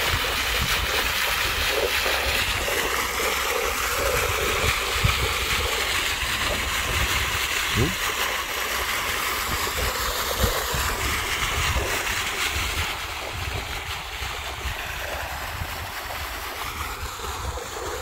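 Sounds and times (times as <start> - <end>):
wind buffeting microphone: 0.0 - 8.2, 8.8 - 18.0
fountain spraying water: 0.0 - 18.0.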